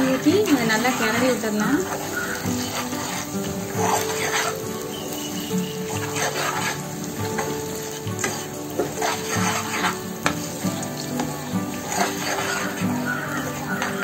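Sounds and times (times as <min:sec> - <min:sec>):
ghee sizzling: 0:00.0 - 0:14.0
spoon scraping a steel pan: 0:00.1 - 0:14.0.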